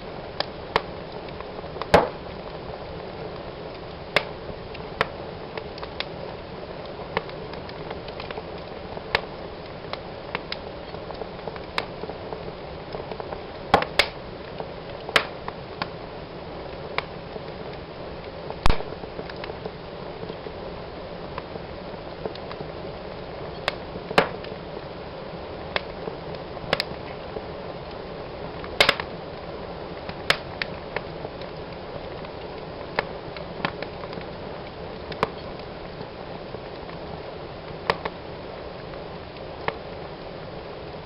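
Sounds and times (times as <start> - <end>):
logs crackling and popping: 0.0 - 41.0
wood fire hissing: 0.0 - 41.0.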